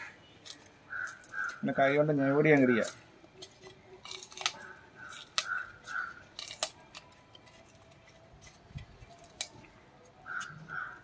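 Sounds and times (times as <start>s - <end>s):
chillies snapping: 0.4s - 1.6s, 2.5s - 11.0s.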